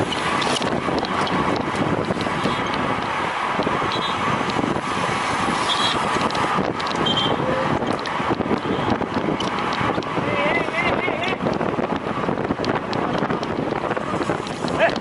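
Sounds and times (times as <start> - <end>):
road and tyre noise: 0.0 - 15.0
wind buffeting microphone: 0.0 - 15.0.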